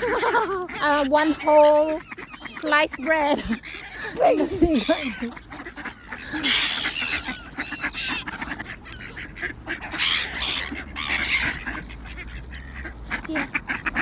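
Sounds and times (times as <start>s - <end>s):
ducks quacking: 0.0s - 14.0s
seagulls squawking: 0.0s - 14.0s.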